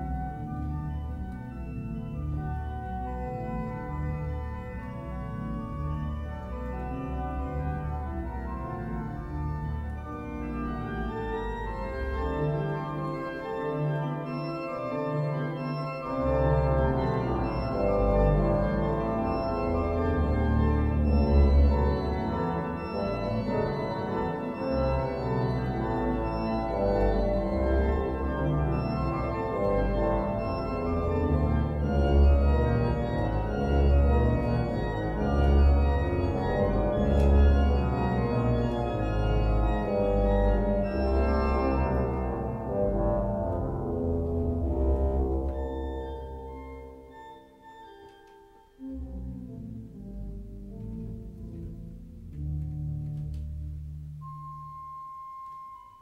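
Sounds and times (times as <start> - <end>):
organ pedal bass line: 0.0 - 47.4, 48.8 - 54.8
organ sustained chords: 0.0 - 56.0.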